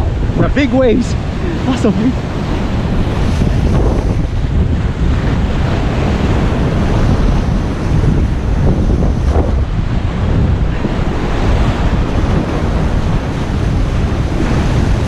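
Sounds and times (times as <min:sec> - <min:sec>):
water and surf rushing: 0:00.0 - 0:15.0
wind on microphone: 0:00.0 - 0:15.0.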